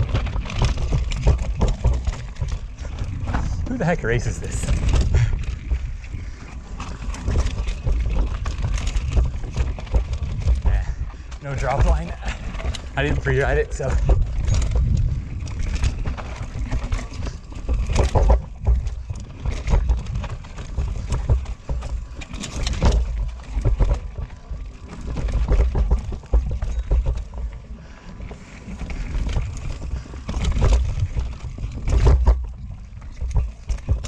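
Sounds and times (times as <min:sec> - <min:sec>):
wind buffeting microphone: 0:00.0 - 0:28.0
bike knocking and rattling: 0:00.0 - 0:34.0
bike tyres rolling over stones: 0:00.0 - 0:34.0.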